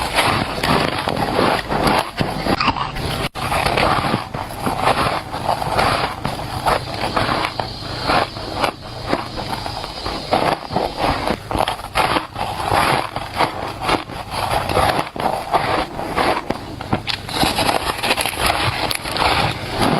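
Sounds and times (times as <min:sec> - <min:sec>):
ice being chewed: 0:00.0 - 0:19.9.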